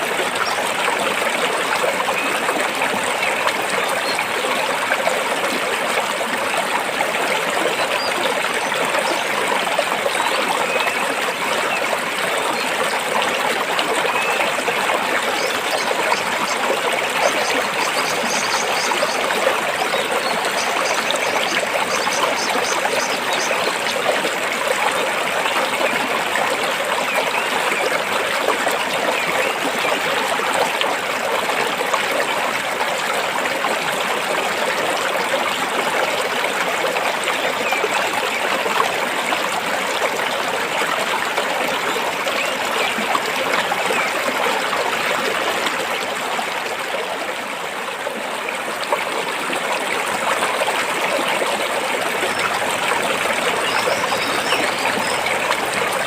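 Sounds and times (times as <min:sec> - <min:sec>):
stream flowing between rocks: 0:00.0 - 0:56.0.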